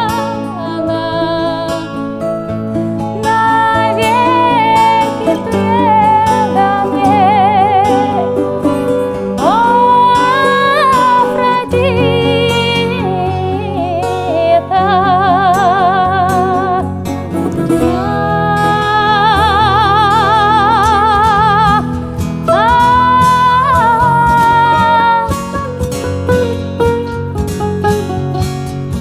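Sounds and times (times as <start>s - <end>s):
woman singing with vibrato: 0.0s - 26.0s
plucked bouzouki and guitar: 0.0s - 29.0s.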